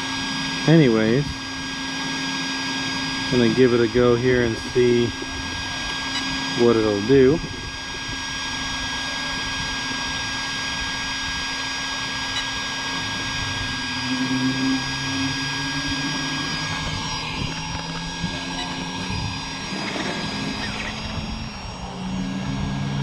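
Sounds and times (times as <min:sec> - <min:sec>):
electric motor whine: 0:00.0 - 0:23.0
lower motor tone: 0:00.0 - 0:23.0.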